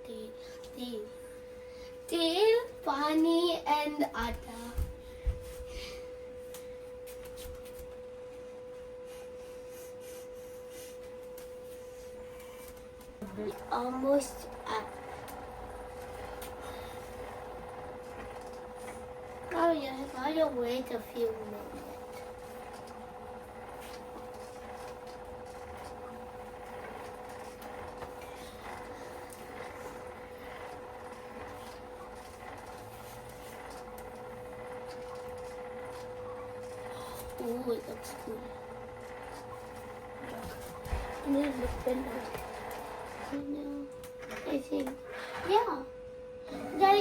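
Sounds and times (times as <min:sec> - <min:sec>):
machine humming: 0:00.0 - 0:47.0.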